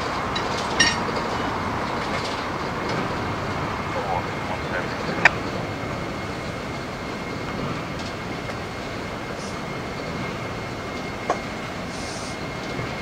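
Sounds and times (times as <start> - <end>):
freight cars rolling: 0.0 - 13.0.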